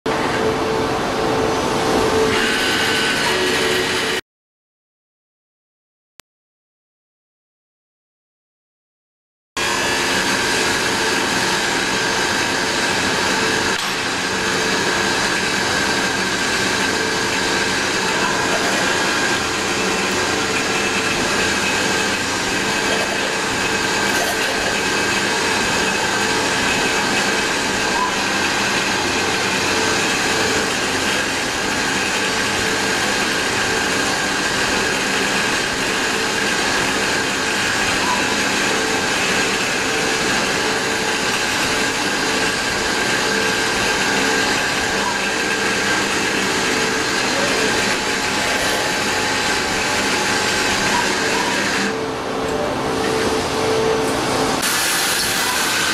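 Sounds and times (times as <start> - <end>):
machine tool machining with whine: 0.1 - 4.2, 9.6 - 55.9.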